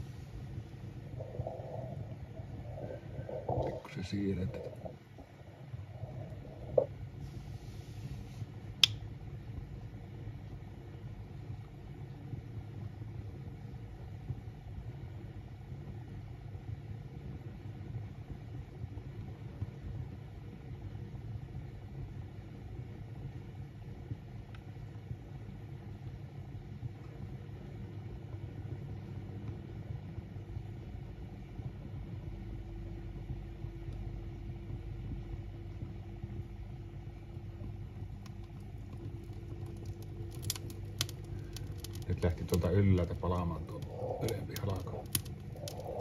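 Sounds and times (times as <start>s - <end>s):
fire crackles: 0.0s - 46.0s
wood fire rumbling: 0.0s - 46.0s.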